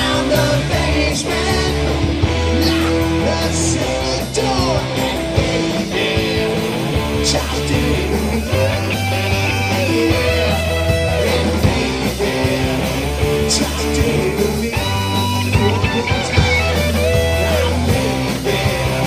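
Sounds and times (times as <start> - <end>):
bass guitar: 0.0 - 19.0
drums: 0.0 - 19.0
electric guitars: 0.0 - 19.0.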